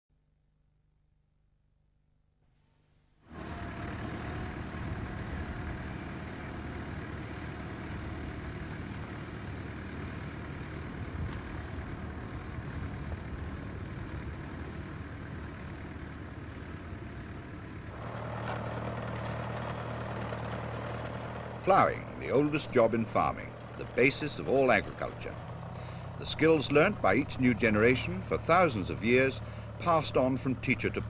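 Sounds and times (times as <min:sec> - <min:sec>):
engine humming: 0:03.2 - 0:31.0.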